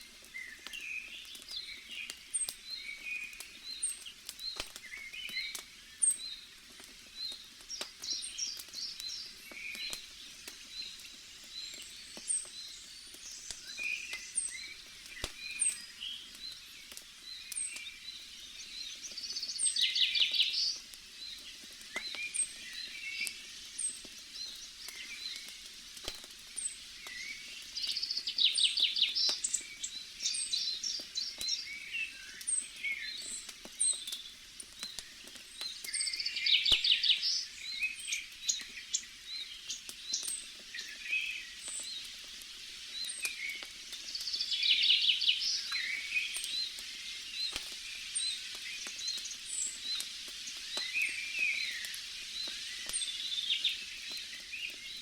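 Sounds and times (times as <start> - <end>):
campfire crackling and popping: 0.0 - 55.0
birds chirping: 0.2 - 55.0.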